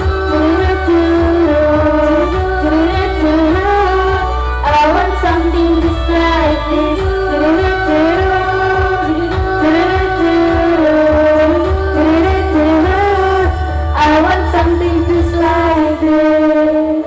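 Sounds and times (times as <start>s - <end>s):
girls' choir singing over loudspeakers: 0.0s - 17.0s.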